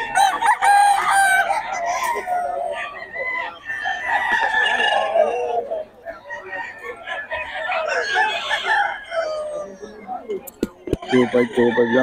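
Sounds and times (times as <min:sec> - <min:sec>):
roosters crowing: 0:00.0 - 0:10.2, 0:10.9 - 0:12.0.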